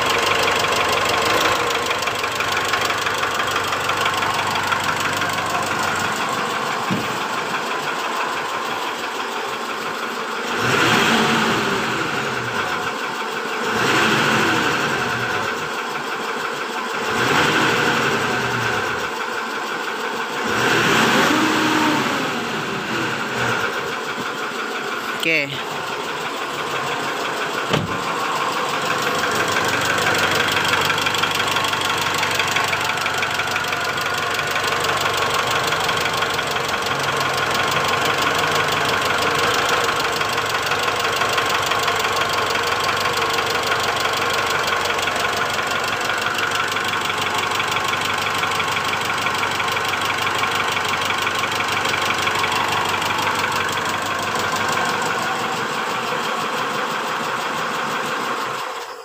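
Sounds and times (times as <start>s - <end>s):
diesel engine idling with knock: 0.0s - 59.0s.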